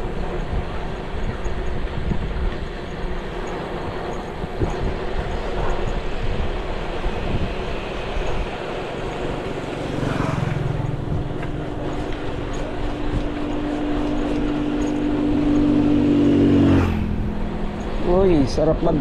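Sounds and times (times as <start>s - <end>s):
steady low hum: 0.0s - 19.0s
wind rushing over microphone: 0.0s - 19.0s.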